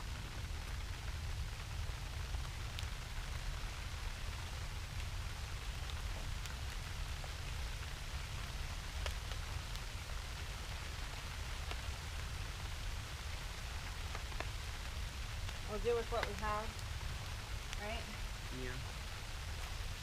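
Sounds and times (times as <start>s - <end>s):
raindrops tapping close by: 0.0s - 20.0s
steady rain: 0.0s - 20.0s.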